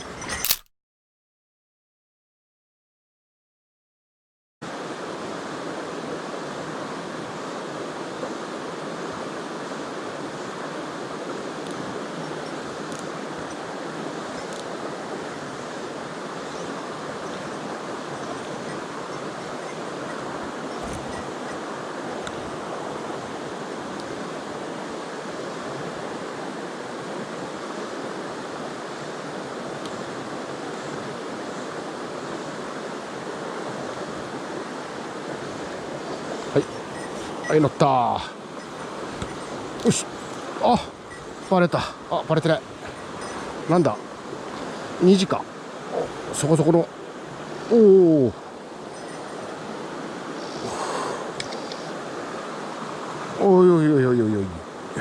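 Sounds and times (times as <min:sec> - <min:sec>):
stream water rushing: 0:04.7 - 0:55.0.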